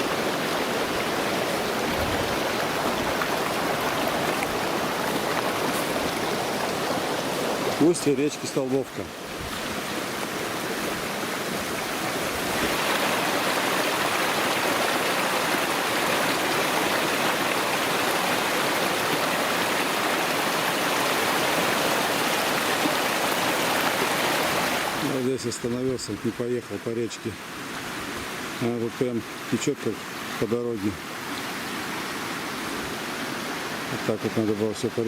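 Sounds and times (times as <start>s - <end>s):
river rushing: 0.0s - 35.0s.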